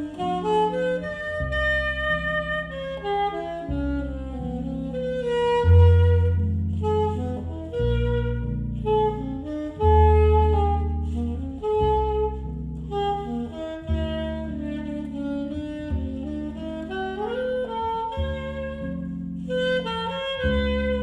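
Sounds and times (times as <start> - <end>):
jazz alto saxophone melody: 0.0 - 21.0.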